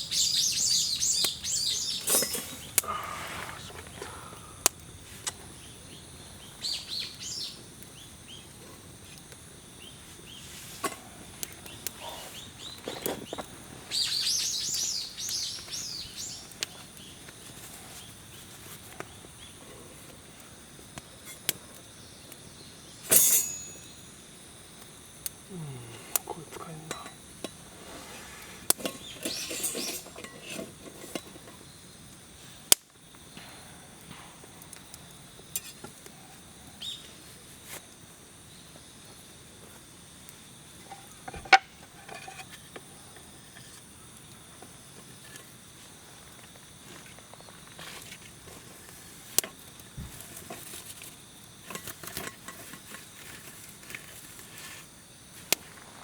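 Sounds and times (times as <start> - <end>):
wood fire hissing: 0.0 - 56.0
fire popping and crackling: 1.0 - 56.0.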